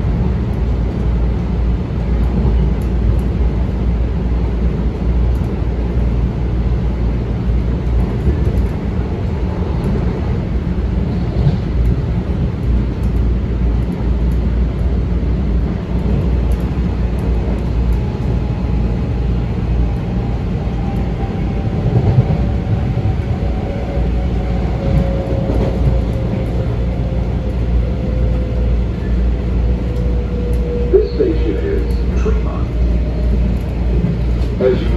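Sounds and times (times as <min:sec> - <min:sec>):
train wheels rumbling: 0:00.0 - 0:34.9.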